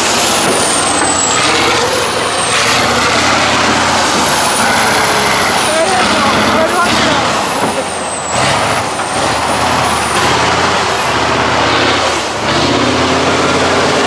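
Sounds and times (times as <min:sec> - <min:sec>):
truck diesel engine revving: 0:00.0 - 0:14.0.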